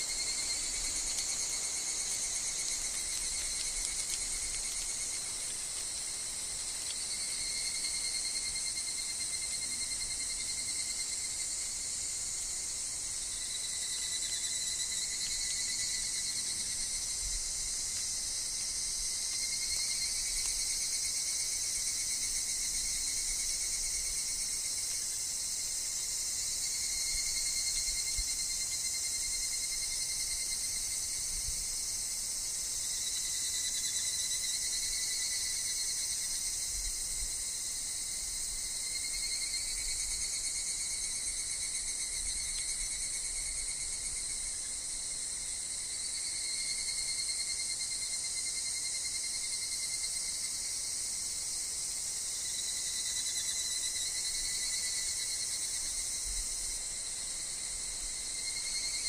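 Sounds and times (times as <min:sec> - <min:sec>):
cicadas and insects chirring: 0:00.0 - 0:59.0.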